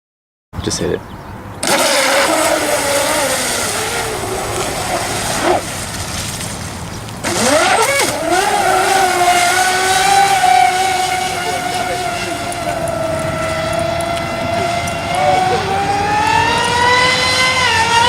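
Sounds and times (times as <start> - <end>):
model boat motor whining: 1.6 - 18.0.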